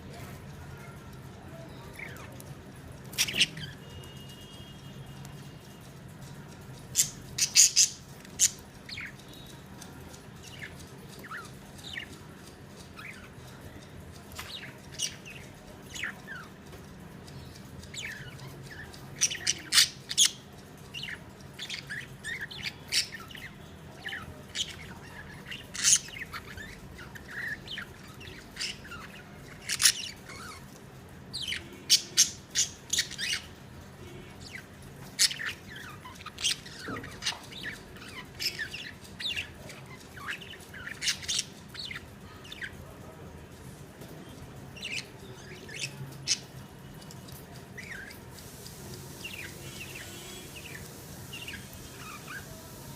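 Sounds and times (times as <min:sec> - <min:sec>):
budgerigars chirping and squawking: 0:01.8 - 0:04.7, 0:06.5 - 0:52.9.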